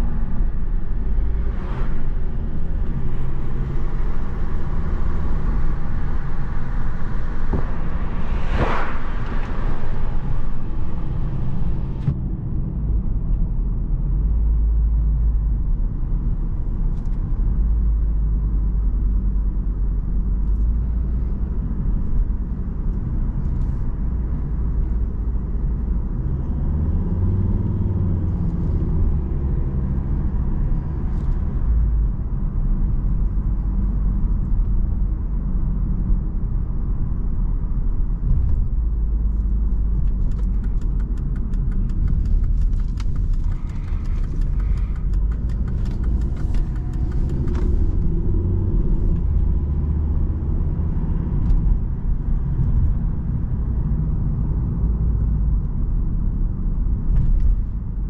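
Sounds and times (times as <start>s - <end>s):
car interior engine and road rumble: 0.0s - 58.0s.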